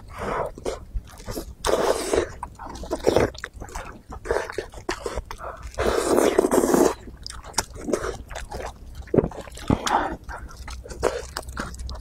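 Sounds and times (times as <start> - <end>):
person chewing and biting: 0.0 - 12.0.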